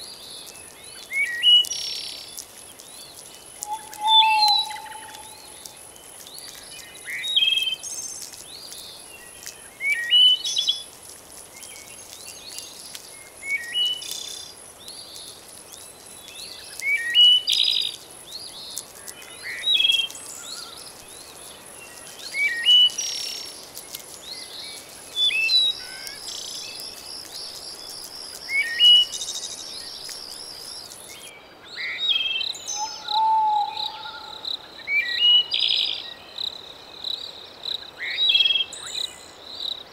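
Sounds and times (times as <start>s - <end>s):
birds chirping: 0.0s - 10.8s, 11.6s - 36.2s
faint hiss: 0.0s - 39.9s.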